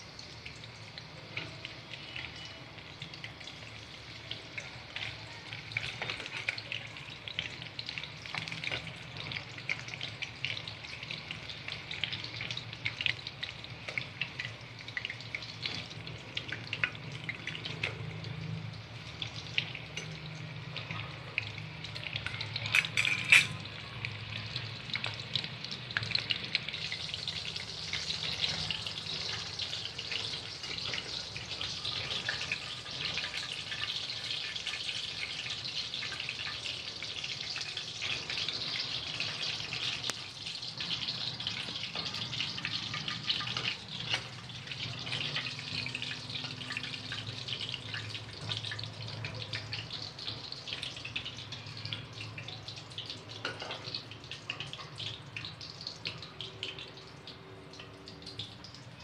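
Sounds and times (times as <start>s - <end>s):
chicken deep-frying in oil: 0.0s - 59.0s.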